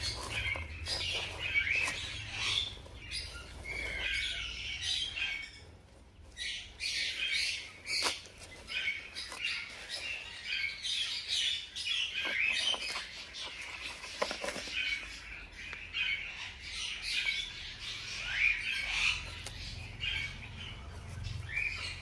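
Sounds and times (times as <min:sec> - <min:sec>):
hamster pups squeaking: 0:00.0 - 0:22.0.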